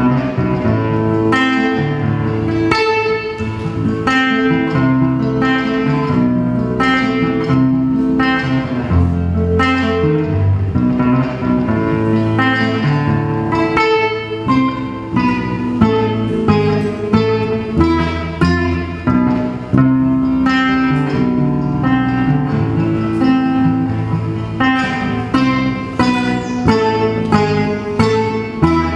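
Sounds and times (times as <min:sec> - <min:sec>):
acoustic guitar strumming: 0:00.0 - 0:28.9.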